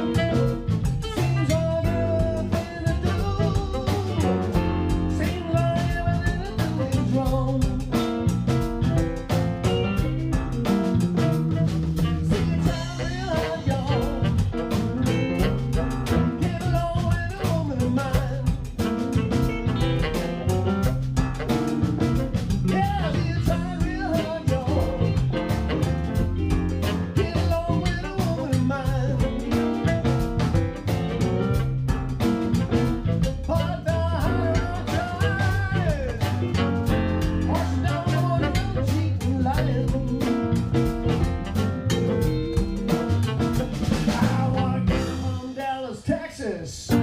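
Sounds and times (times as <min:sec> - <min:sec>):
blues band playing: 0:00.0 - 0:47.0.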